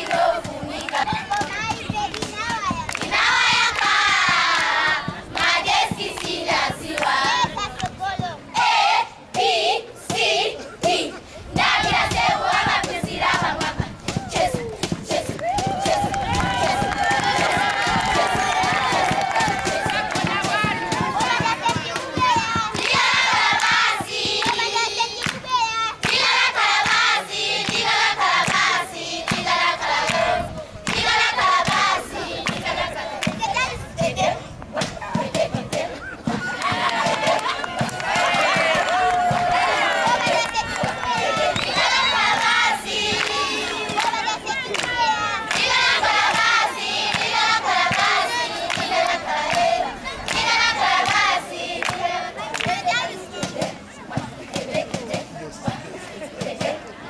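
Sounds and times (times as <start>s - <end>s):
hand claps: 0.0s - 8.0s, 12.1s - 33.6s, 36.5s - 53.8s
girls choir singing: 0.0s - 57.0s.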